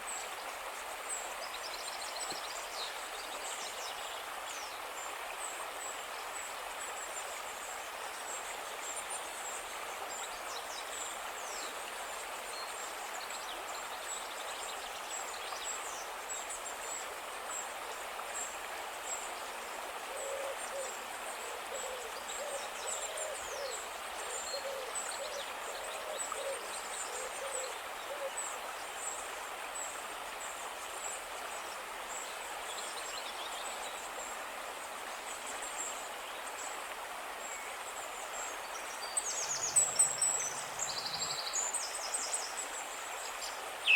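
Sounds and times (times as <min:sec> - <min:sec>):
rushing water: 0:00.0 - 0:43.9.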